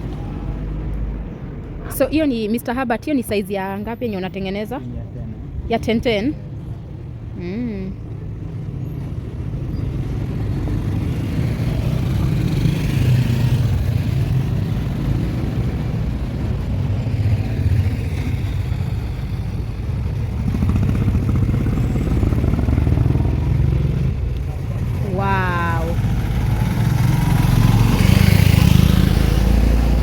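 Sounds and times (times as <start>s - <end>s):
motorcycles: 0.0s - 30.0s
traffic engine rumble: 0.0s - 30.0s.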